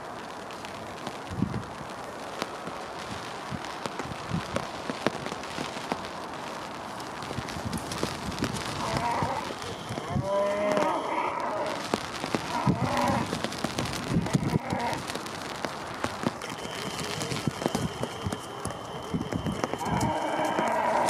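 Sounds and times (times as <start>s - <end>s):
steady crackling patter: 0.0s - 21.0s.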